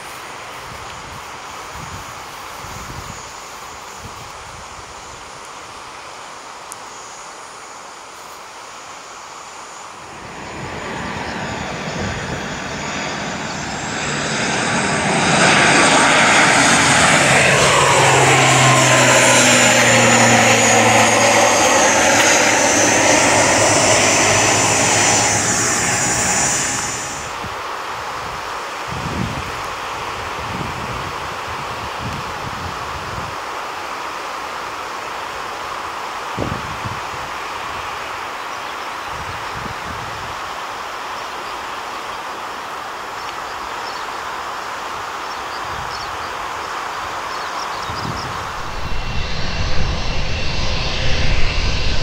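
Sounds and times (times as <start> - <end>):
turboprop airliner flying over: 9.7 - 52.0.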